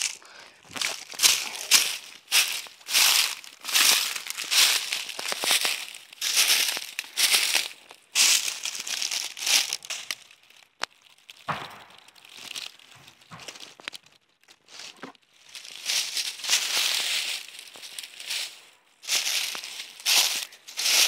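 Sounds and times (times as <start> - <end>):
footsteps in dry leaves: 0.0 - 13.8, 14.6 - 21.0.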